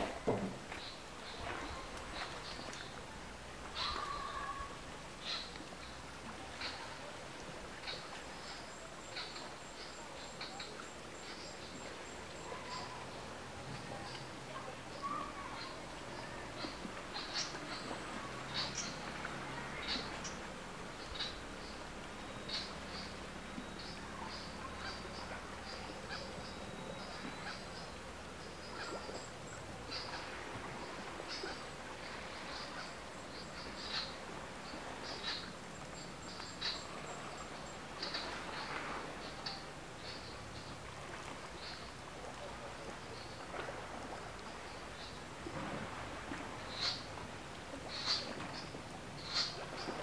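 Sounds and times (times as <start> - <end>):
birds chirping: 0.0 - 42.1, 47.9 - 50.0
steady low hiss: 0.0 - 50.0.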